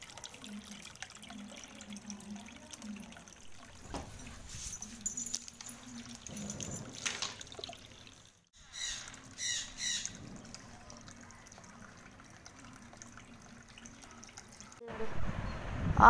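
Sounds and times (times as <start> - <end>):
water trickling into basin: 0.0 - 14.8.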